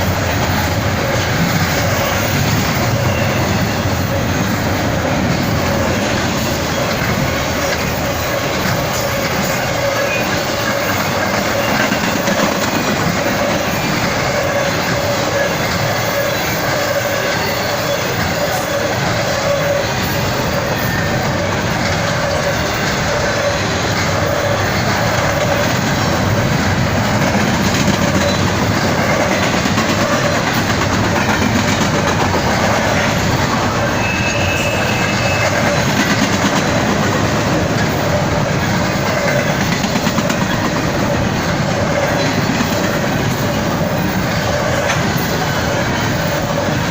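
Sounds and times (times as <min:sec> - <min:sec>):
freight train wheels clattering: 0:00.0 - 0:46.9.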